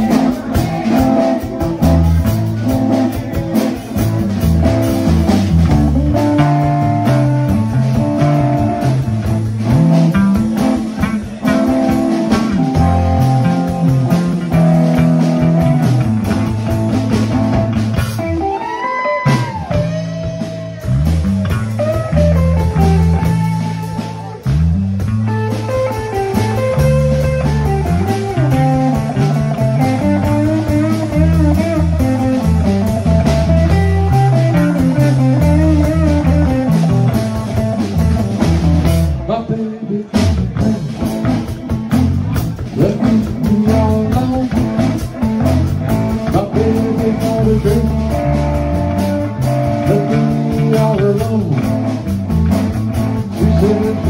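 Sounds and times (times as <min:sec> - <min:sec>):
lead guitar bending notes: 0:00.0 - 0:54.0
live band playing: 0:00.0 - 0:54.0.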